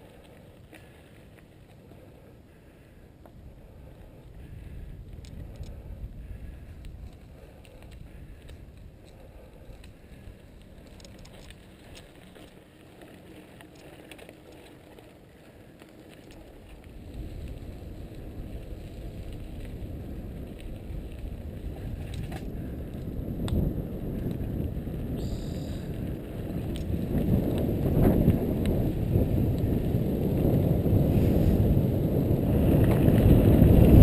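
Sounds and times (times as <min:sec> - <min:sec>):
bike clicks and rattles: 0:00.0 - 0:34.0
bike tyres rumbling on dirt: 0:00.0 - 0:34.0
wind buffeting microphone: 0:02.7 - 0:12.5, 0:15.6 - 0:34.0.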